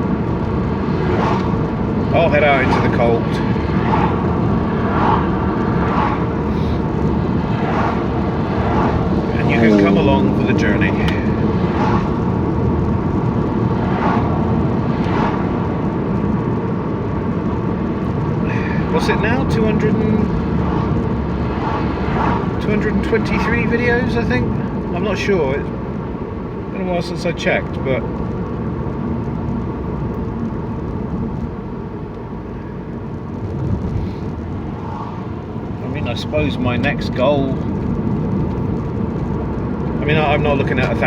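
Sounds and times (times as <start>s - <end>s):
car cabin engine rumble: 0.0s - 41.0s.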